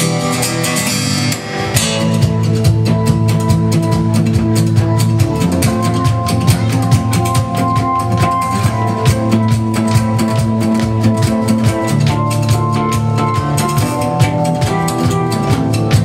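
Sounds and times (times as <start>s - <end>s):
drum kit beat: 0.0s - 16.0s
live band music: 0.0s - 16.0s.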